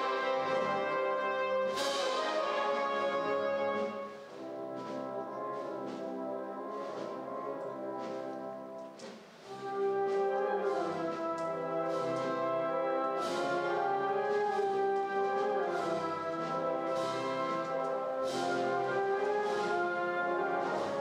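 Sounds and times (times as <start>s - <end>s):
brass band playing a march: 0.0s - 21.0s.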